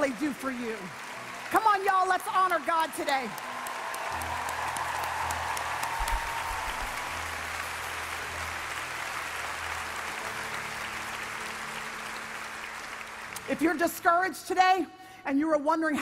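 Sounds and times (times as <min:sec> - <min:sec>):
crowd applauding: 0:00.0 - 0:14.2.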